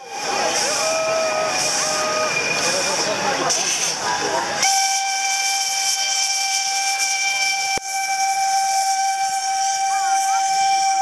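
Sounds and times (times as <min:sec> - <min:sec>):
steam whistle blowing: 0:00.0 - 0:02.9, 0:04.6 - 0:11.0
steam hissing: 0:00.0 - 0:11.0.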